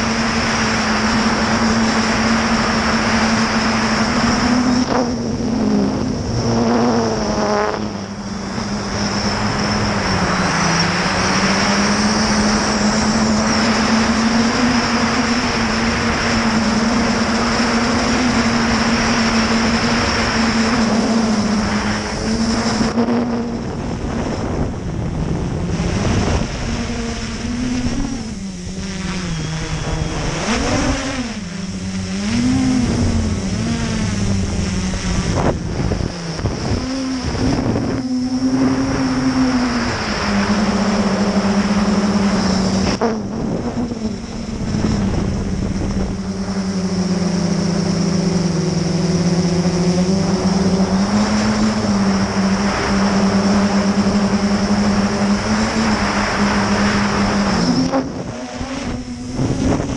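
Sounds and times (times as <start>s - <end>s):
quadcopter motors buzzing: 0.0s - 59.9s
wind rush: 0.0s - 59.9s.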